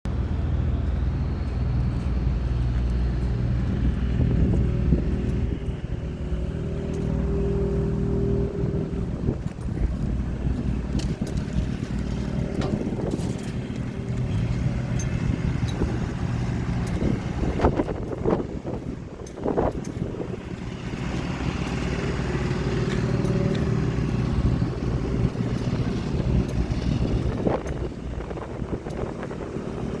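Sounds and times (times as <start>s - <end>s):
strong wind buffeting microphone: 0.1s - 30.0s.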